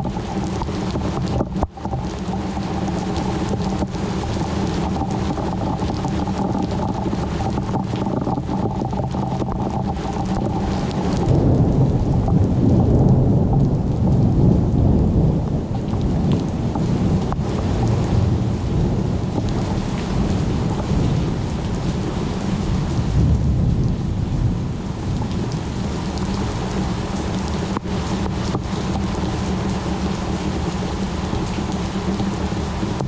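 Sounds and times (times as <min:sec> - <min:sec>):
rolling thunder: 0:00.0 - 0:29.4
heavy rain: 0:00.0 - 0:33.0.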